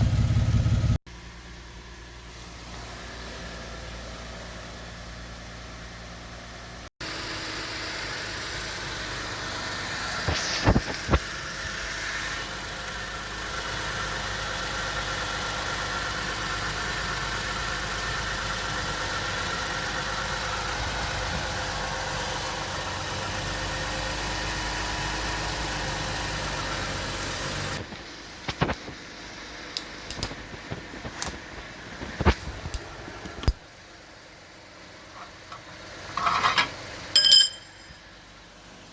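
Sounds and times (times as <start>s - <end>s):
car engine and exhaust running: 0.0s - 38.9s.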